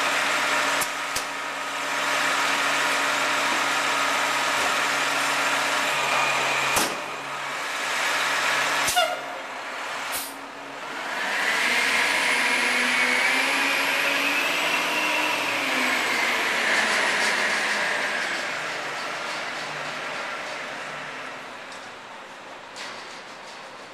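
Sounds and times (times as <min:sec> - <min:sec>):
engine whine: 0:00.0 - 0:23.6.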